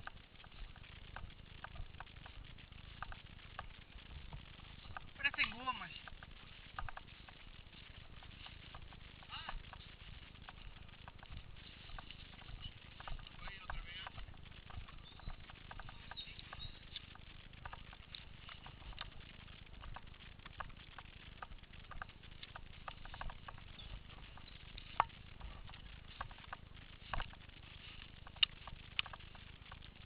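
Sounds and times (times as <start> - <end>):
twigs crackling and snapping: 0.0 - 30.0.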